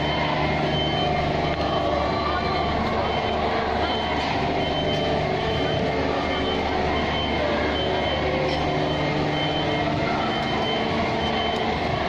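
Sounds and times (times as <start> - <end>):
high electronic beep: 0.0 - 12.0.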